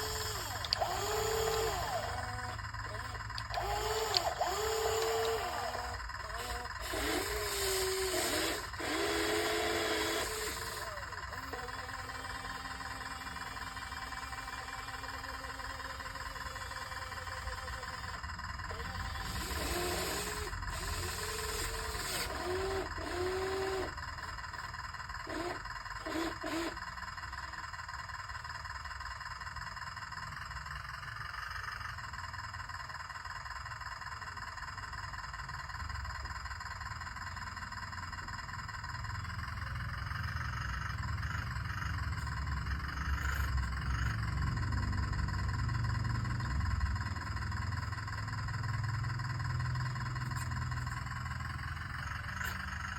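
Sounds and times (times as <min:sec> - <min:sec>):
small electric motors whirring: 0:00.0 - 0:27.8, 0:37.7 - 0:52.9.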